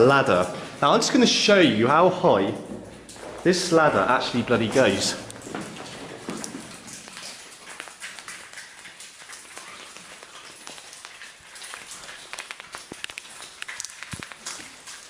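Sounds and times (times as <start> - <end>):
water drops pattering on rock: 0.0 - 15.0.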